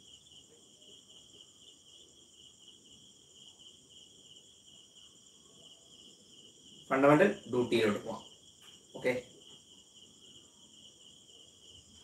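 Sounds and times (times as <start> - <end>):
faint high-pitched pulsing chirring: 0.0 - 12.0.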